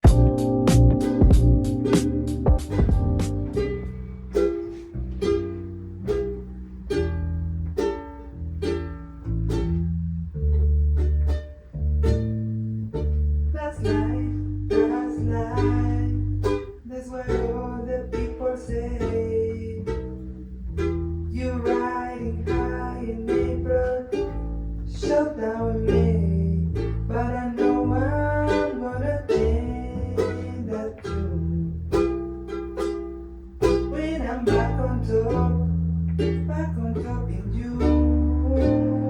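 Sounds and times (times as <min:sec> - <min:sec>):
bass line: 0:00.0 - 0:39.0
plucked strings: 0:00.0 - 0:39.0.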